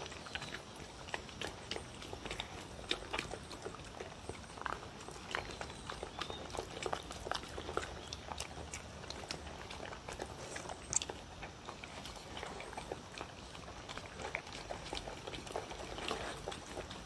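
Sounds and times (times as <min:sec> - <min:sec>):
dogs chewing and licking: 0:00.0 - 0:17.0.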